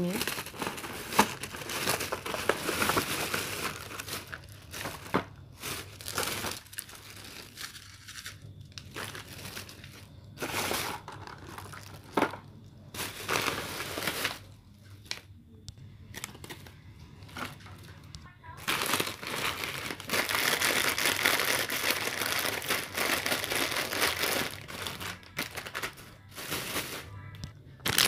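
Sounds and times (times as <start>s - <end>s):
plastic bag crinkling: 0.0s - 15.3s, 18.6s - 27.2s.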